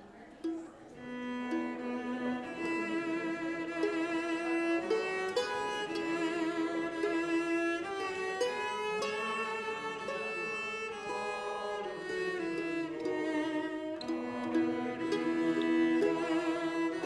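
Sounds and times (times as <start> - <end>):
bowed strings playing melody: 0.1 - 17.0.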